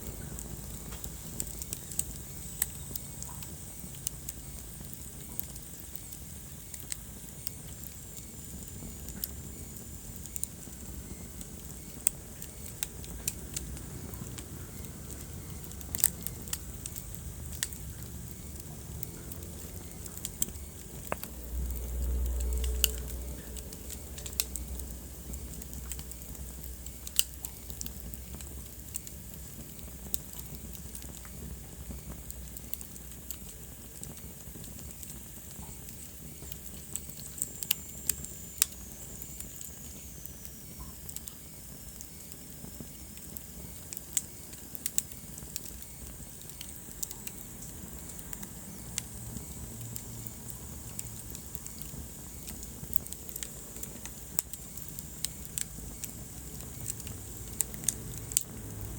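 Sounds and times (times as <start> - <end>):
low rumble of flames: 0.0 - 58.9
wood fire crackling and popping: 0.0 - 58.9.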